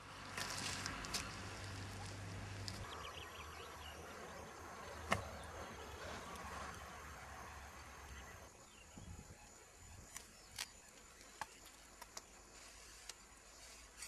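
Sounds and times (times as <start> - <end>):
outdoor background hum: 0.0 - 14.0.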